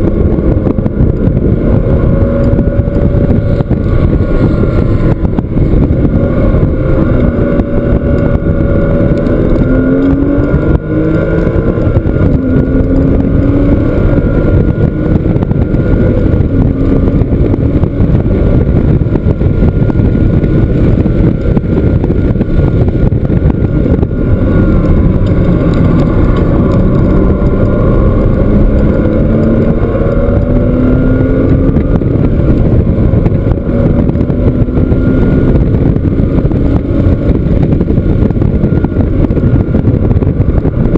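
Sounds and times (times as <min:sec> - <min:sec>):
car engine accelerating hard: 0:00.0 - 0:40.9
wind and road noise: 0:00.0 - 0:40.9.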